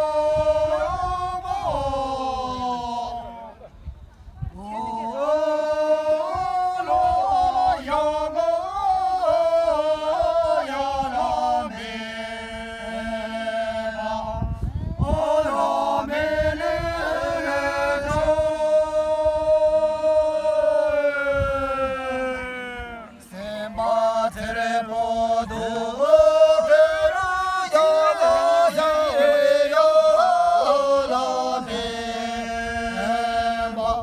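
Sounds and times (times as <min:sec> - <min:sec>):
group singing in unison: 0:00.0 - 0:03.6, 0:04.6 - 0:34.0.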